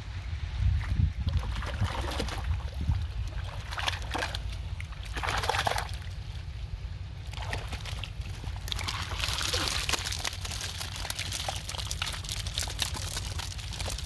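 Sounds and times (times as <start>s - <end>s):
steady low rumble: 0.0s - 14.0s
water sloshing and splashing: 0.8s - 14.0s.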